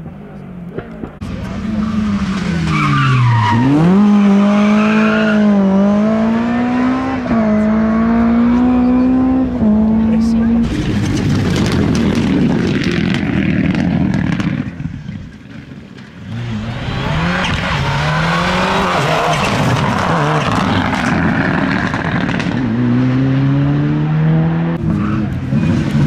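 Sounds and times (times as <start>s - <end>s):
rally car engine revving past: 1.2s - 14.7s, 16.3s - 26.0s.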